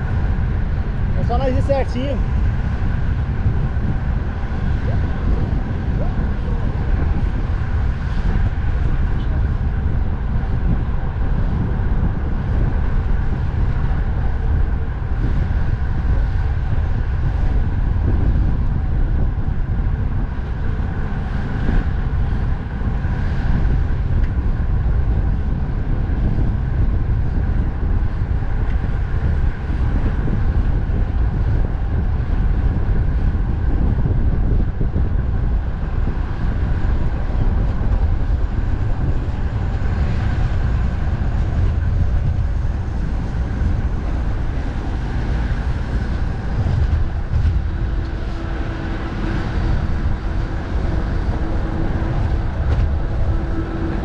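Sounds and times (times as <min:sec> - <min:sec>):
expressway traffic hum: 0:00.0 - 0:54.0
wind on microphone: 0:00.0 - 0:54.0.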